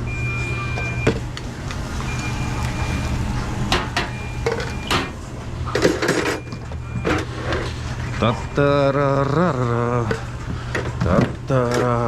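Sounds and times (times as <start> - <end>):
kitchen equipment hum: 0.0 - 10.8.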